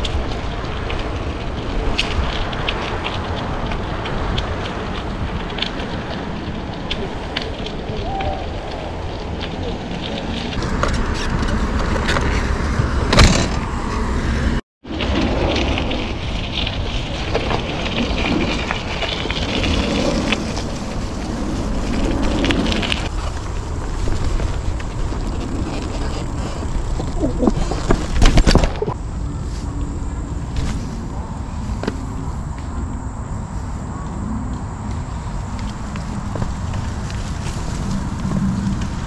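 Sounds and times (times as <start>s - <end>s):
tyre and wind rush: 0.0s - 39.0s.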